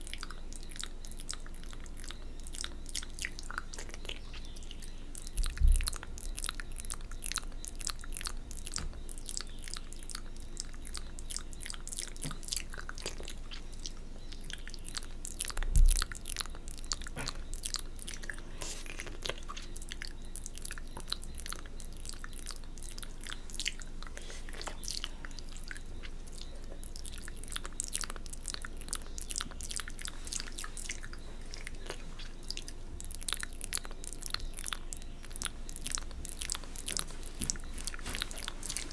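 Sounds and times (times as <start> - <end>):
wet mouth licking and smacking: 0.0 - 38.9.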